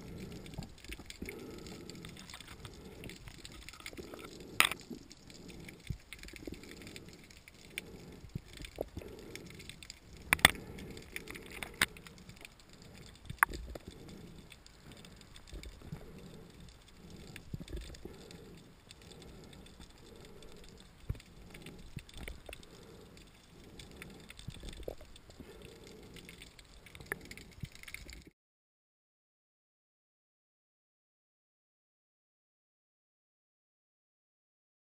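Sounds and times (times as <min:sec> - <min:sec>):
underwater swish of moving water: 0:00.0 - 0:28.3.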